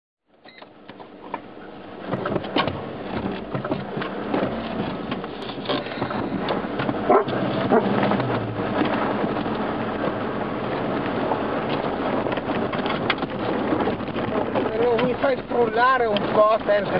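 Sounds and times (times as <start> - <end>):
engine hum: 0.3 - 16.9
vehicle knocks and rattles: 0.7 - 16.9.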